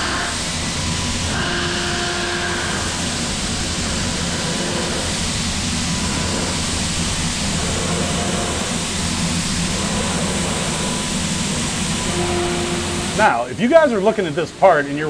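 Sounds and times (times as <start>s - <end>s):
milling machine hiss: 0.0s - 15.0s.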